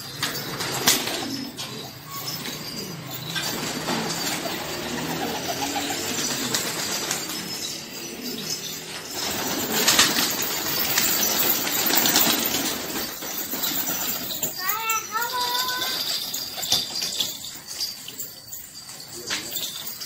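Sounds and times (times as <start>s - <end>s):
pigeon wings flapping: 0.0s - 17.9s
pigeons cooing: 0.0s - 20.0s.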